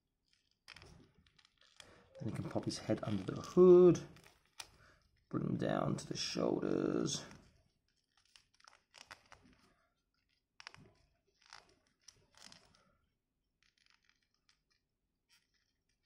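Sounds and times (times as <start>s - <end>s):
plastic figure rustling and clicking: 0.2s - 5.3s, 6.7s - 16.0s.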